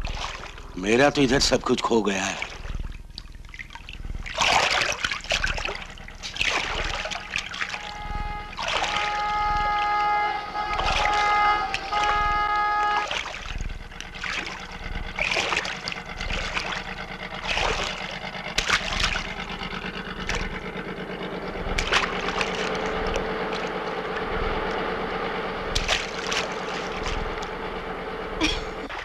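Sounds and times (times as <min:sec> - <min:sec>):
boat engine chugging: 0:00.0 - 0:29.0.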